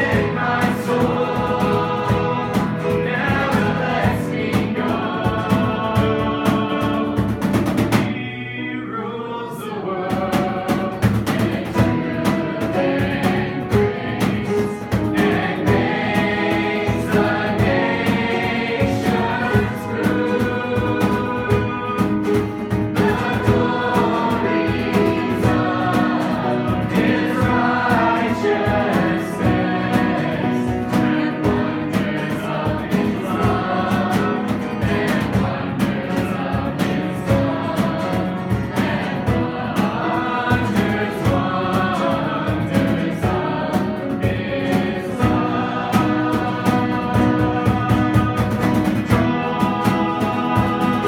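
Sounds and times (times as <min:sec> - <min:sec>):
instruments with steady beat: 0:00.0 - 0:08.2, 0:10.2 - 0:51.0
voices singing gospel song: 0:00.0 - 0:51.0.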